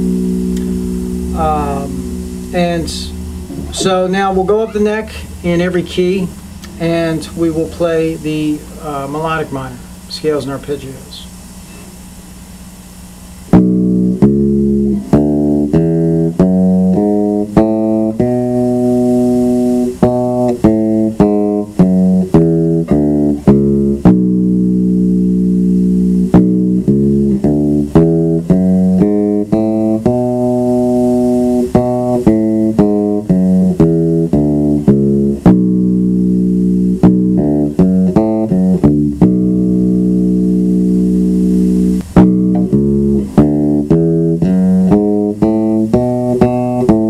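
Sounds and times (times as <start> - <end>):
electric bass guitar scales: 0.0 - 47.0.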